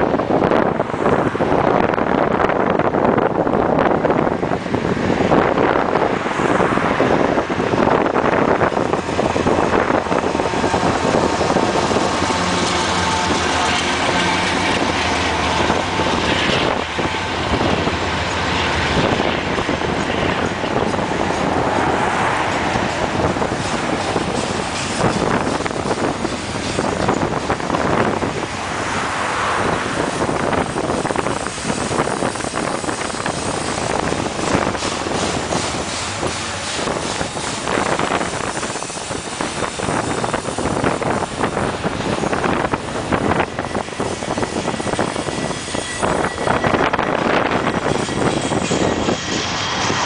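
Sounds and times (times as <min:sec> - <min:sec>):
train wheels rumbling on rails: 0:00.0 - 0:50.0
wind buffeting microphone: 0:00.0 - 0:50.0.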